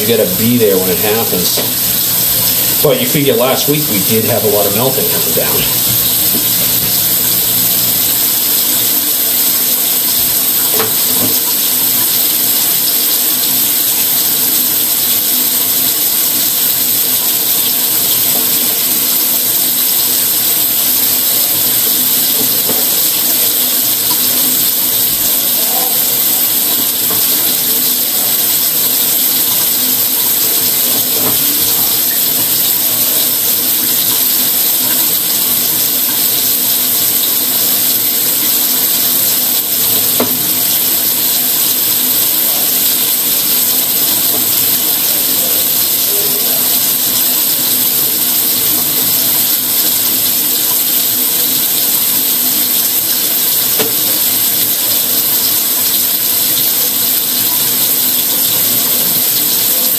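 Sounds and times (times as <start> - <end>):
steady loud hiss: 0.0 - 59.9.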